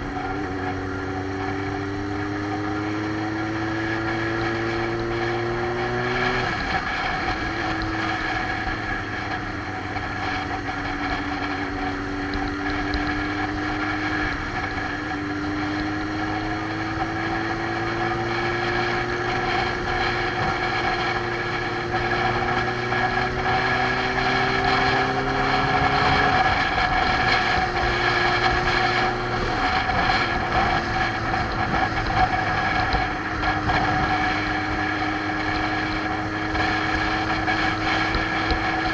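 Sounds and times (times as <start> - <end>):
motorcycle engine: 0.0 - 38.9
road and wind noise: 0.0 - 38.9.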